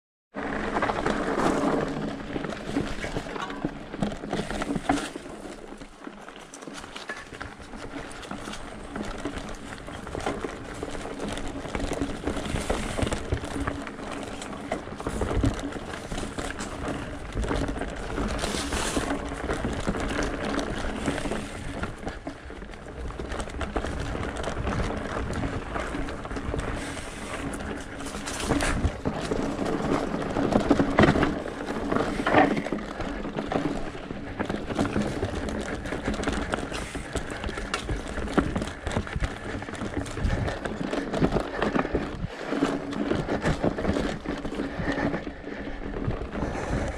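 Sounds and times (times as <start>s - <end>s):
bike tyre and drivetrain noise: 0.3s - 46.9s
bike knocking over rocks: 0.4s - 46.9s.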